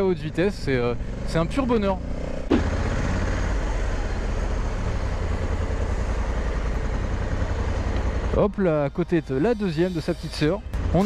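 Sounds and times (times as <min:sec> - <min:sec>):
motorcycle engine low rumble: 0:00.0 - 0:11.0
road and wind noise: 0:00.0 - 0:11.0.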